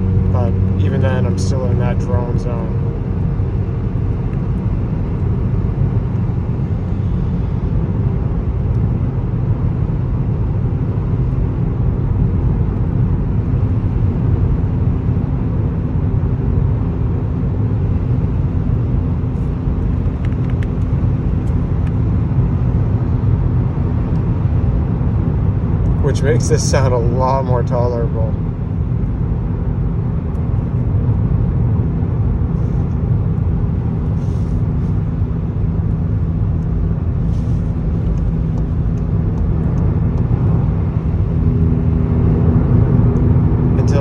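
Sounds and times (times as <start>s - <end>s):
exhaust drone inside car: 0.0s - 44.0s
road and tyre noise: 0.0s - 44.0s.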